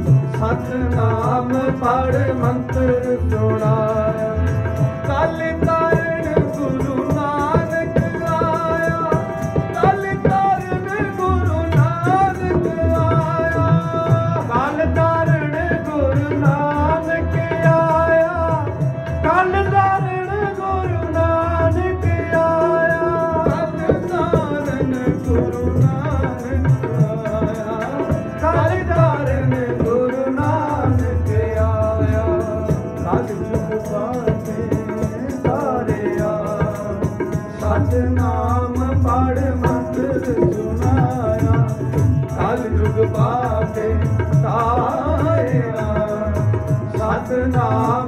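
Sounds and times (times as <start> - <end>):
harmonium melody: 0.0 - 48.0
tabla rhythm: 0.0 - 48.0.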